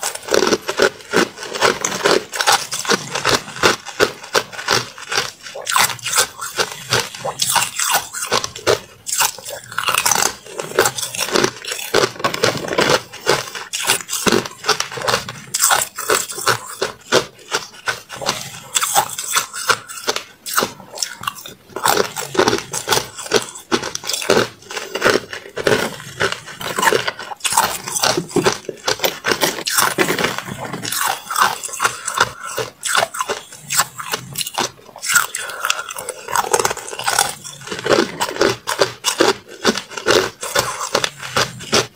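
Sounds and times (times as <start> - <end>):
ice crunching being chewed: 0.0 - 41.9.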